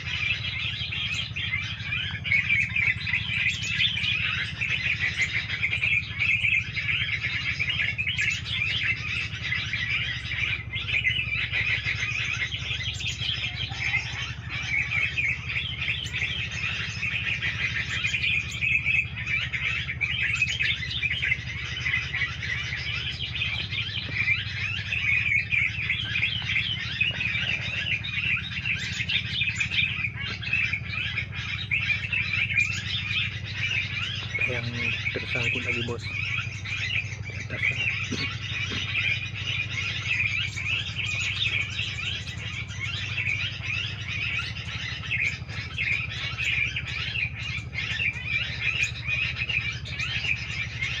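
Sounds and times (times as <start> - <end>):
songbirds chattering and chirping: 0.0 - 51.0
steady low hum: 0.0 - 51.0.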